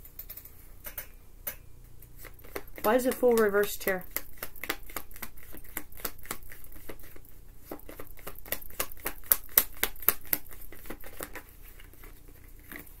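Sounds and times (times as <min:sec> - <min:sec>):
cards being shuffled: 0:02.2 - 0:13.0.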